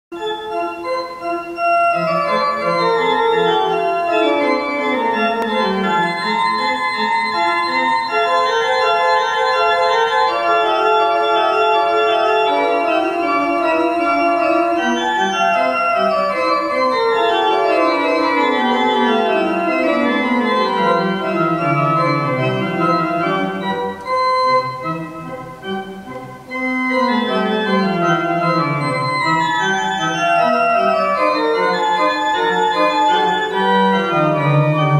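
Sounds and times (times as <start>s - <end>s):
pipe organ playing: 0.2s - 34.9s.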